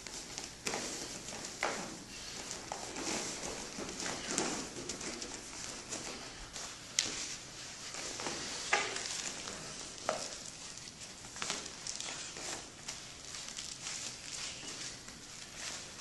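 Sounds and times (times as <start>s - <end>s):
bodies scuffing on mat: 0.0s - 16.0s.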